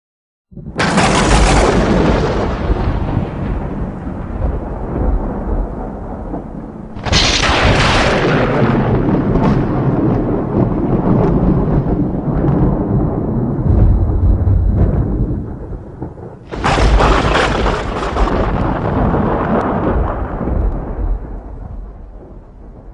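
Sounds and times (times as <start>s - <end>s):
rolling thunder rumble: 0.5s - 22.9s
sharp thunder crack: 0.5s - 22.9s.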